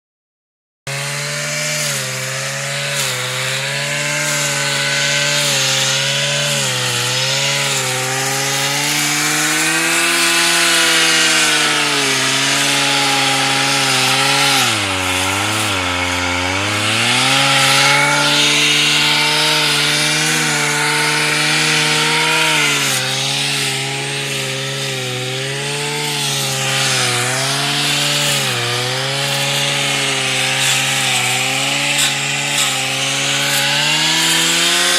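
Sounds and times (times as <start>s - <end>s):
brush cutter engine running: 0.9s - 34.9s.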